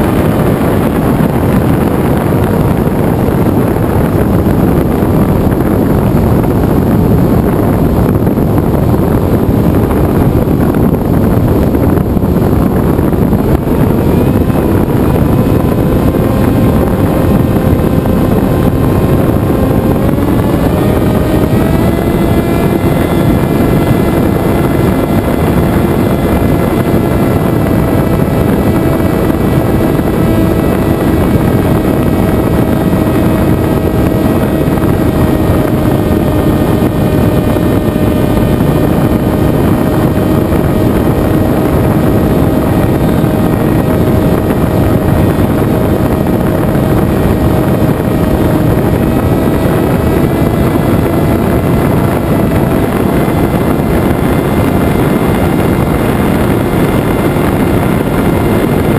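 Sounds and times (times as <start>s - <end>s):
propeller motor whine: 0.0s - 58.9s
rushing air noise: 0.0s - 58.9s.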